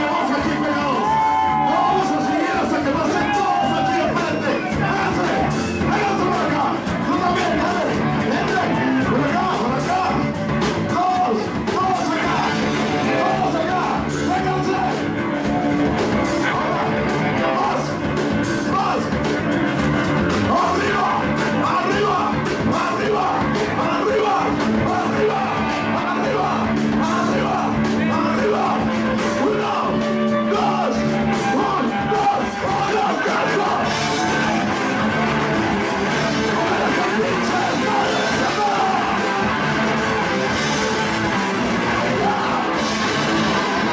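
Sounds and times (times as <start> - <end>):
shouted singing: 0.0 - 10.3, 10.9 - 18.0, 20.3 - 43.9
drums: 0.0 - 43.9
electric guitars: 0.0 - 43.9.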